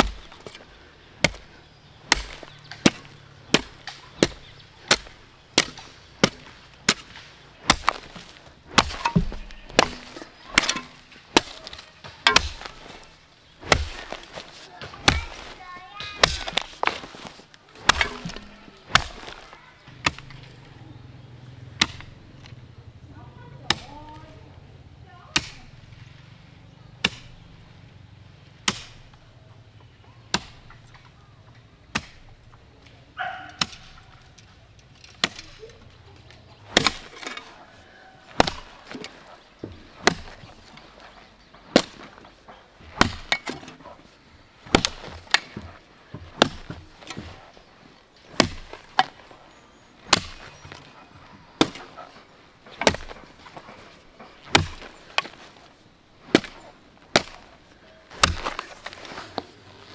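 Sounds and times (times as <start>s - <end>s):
hand tool chopping wood: 0.0s - 20.5s, 21.8s - 22.1s, 23.7s - 24.3s, 25.4s - 25.7s, 27.0s - 27.4s, 28.6s - 29.0s, 30.3s - 30.7s, 31.9s - 32.4s, 33.2s - 37.6s, 38.2s - 59.8s.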